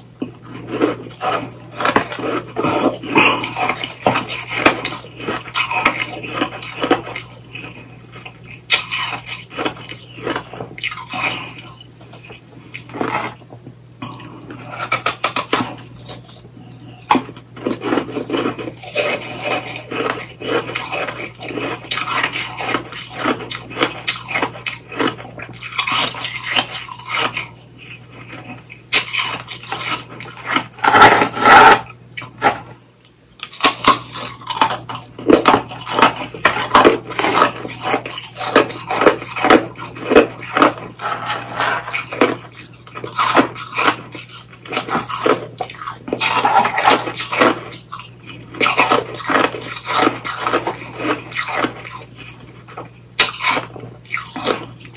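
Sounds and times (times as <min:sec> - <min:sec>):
ice crunching while chewed: 0:00.0 - 0:32.8, 0:33.4 - 0:54.9.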